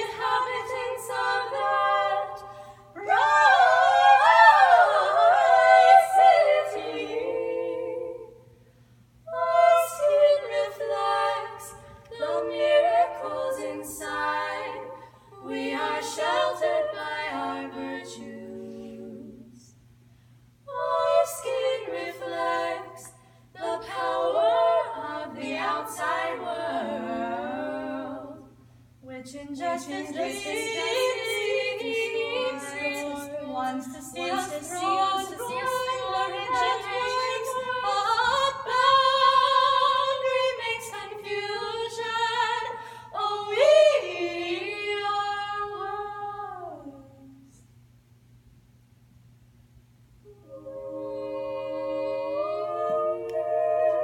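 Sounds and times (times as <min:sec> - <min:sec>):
women singing a cappella: 0:00.0 - 0:08.6, 0:09.3 - 0:19.8, 0:20.7 - 0:47.6, 0:50.2 - 0:54.0
faint low hum: 0:00.0 - 0:54.0.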